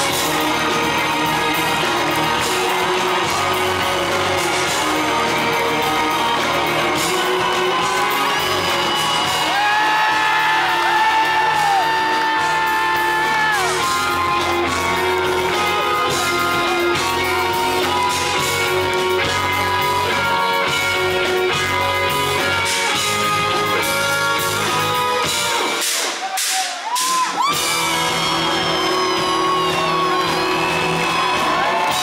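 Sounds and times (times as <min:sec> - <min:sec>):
guitar lead lines: 0:00.0 - 0:25.8
rock band playing: 0:00.0 - 0:32.0.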